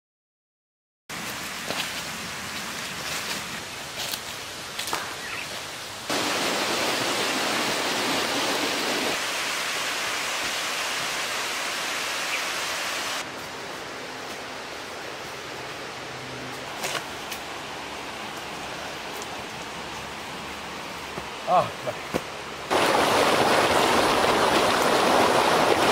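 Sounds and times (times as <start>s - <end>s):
steady rushing outdoor noise: 1.1s - 25.9s.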